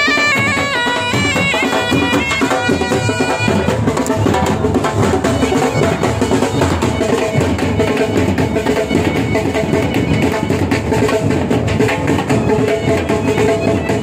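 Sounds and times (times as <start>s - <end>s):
band drums beating a rhythm: 0.0s - 14.0s.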